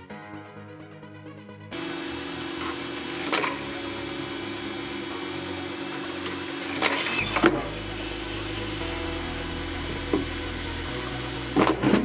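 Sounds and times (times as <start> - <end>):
electric motor humming: 1.8 - 12.0.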